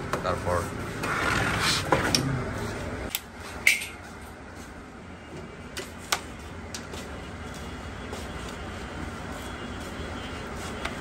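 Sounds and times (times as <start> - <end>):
low workshop background: 0.0 - 11.0.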